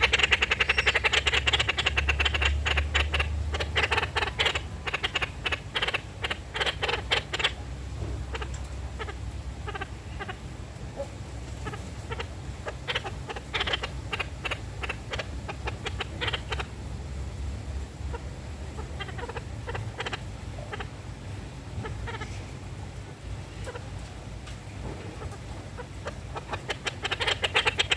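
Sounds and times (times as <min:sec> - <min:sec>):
low steady hum: 0:00.0 - 0:27.9
parakeets chattering: 0:00.0 - 0:27.9.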